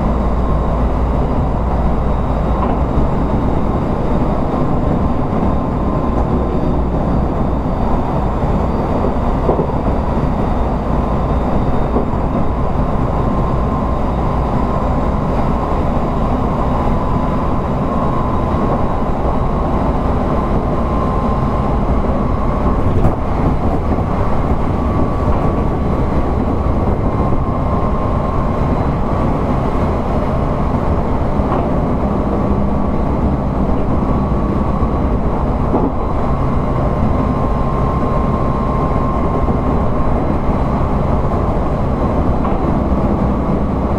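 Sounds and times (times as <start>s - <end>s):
electric train rumble: 0.0s - 43.9s
high whine: 0.0s - 43.9s.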